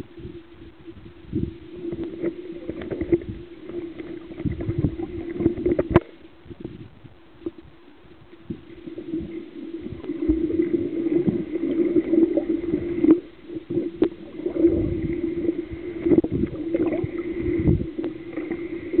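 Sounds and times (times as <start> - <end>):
water sloshing underwater: 0.0 - 19.0.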